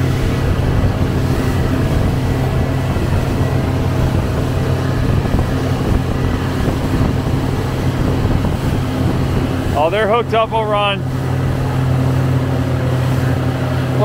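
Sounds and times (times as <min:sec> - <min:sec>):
boat engine humming: 0:00.0 - 0:14.0
water churning in wake: 0:00.0 - 0:14.0.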